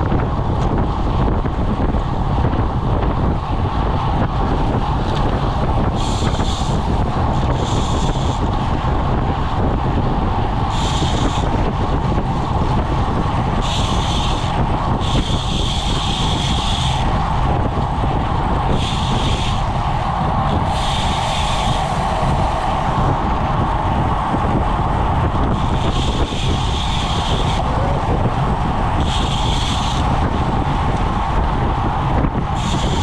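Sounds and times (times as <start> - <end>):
bicycle tyre noise: 0.0 - 33.0
wind on microphone: 0.0 - 33.0.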